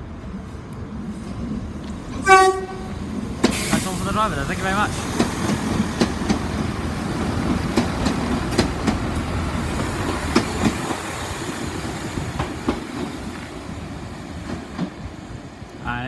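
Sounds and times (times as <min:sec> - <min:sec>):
train wheels clicking over rail joints: 0:00.7 - 0:15.8.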